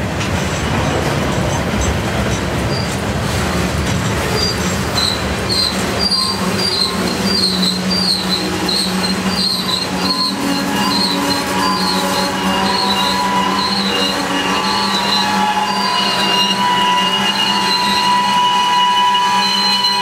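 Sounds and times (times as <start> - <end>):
freight train rumbling: 0.0 - 20.0
train cars knocking: 0.0 - 20.0
train wheels squealing: 0.5 - 3.1, 4.1 - 20.0.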